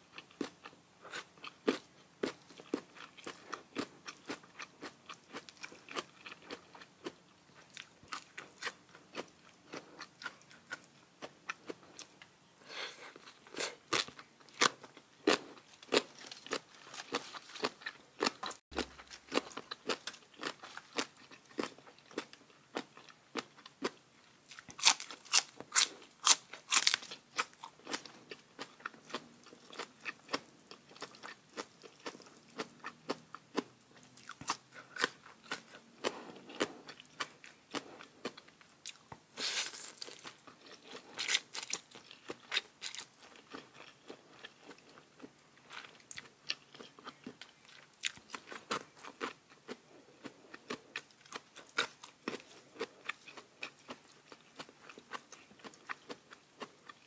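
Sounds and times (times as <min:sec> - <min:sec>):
person chewing crisp food: 0:00.1 - 0:57.0.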